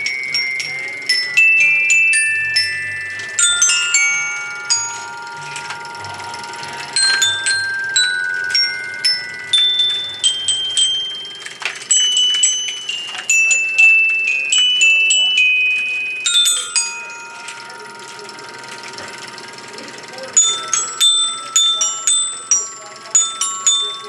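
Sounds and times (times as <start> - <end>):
glockenspiel melody: 0.0 - 24.0.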